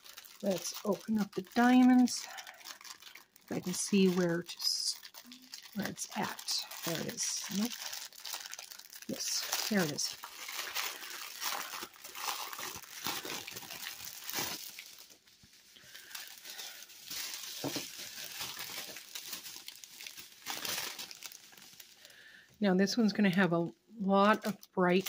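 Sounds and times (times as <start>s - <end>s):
plastic packaging crinkling: 0.0s - 22.3s, 24.3s - 25.0s.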